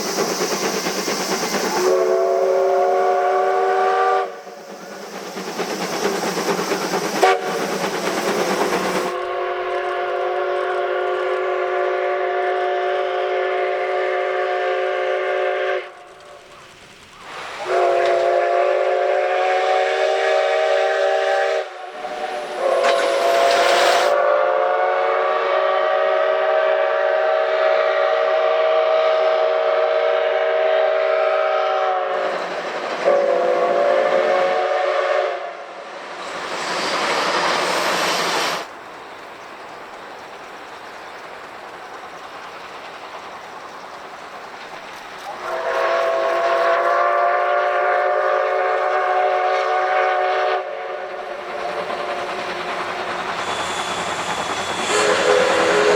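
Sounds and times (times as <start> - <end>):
steam locomotive whistle: 0.0 - 16.5, 17.3 - 38.7, 45.2 - 55.9
loud steam hiss: 0.0 - 55.9.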